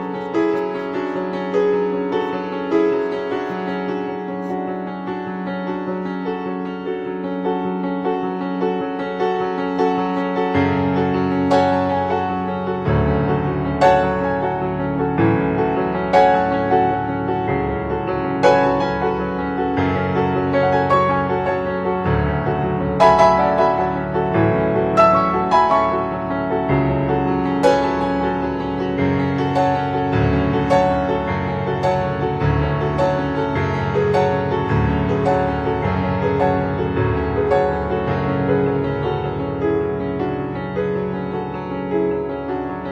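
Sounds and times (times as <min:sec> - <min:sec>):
piano chords: 0:00.0 - 0:42.9.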